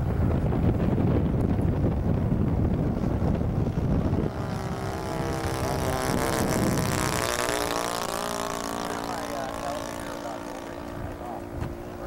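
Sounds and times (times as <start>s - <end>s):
model plane engine drone: 0.0s - 12.0s
wind buffeting microphone: 0.0s - 12.0s.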